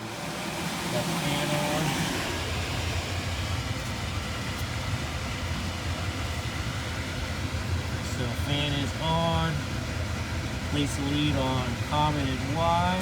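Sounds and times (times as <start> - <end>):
blower fan motor humming: 0.0 - 13.0.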